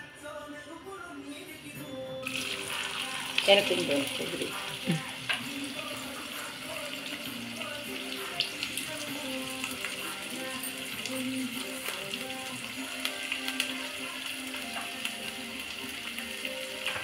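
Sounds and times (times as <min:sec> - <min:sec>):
faint background music: 0:00.0 - 0:17.0
onions sizzling in hot oil: 0:02.2 - 0:17.0.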